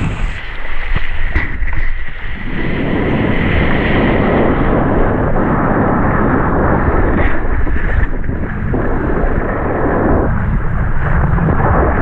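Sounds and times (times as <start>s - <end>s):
water rushing under board: 0.0s - 12.0s
wind buffeting microphone: 0.0s - 12.0s.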